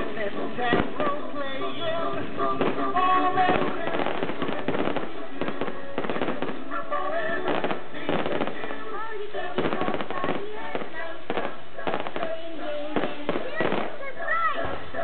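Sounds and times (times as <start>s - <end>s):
fireworks crackling and banging: 0.0s - 15.0s
music: 0.0s - 15.0s.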